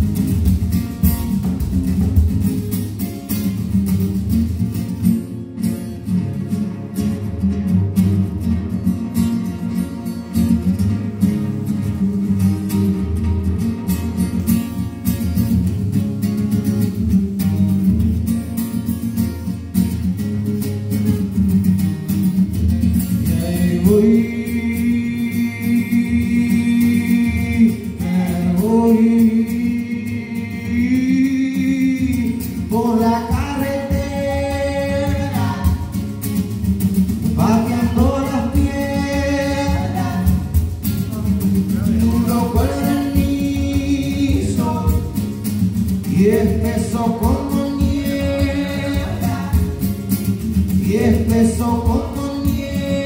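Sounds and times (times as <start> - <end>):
acoustic guitar strummed: 0.0 - 53.0.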